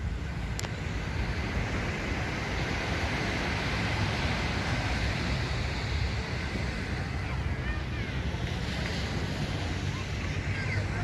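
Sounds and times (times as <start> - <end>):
sea surf washing onto beach: 0.0 - 11.0
wind rumbling on microphone: 0.0 - 11.0.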